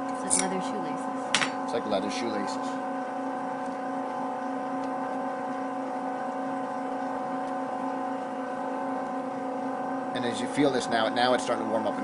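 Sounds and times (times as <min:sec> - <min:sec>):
pasta extruder motor hum: 0:00.0 - 0:12.0.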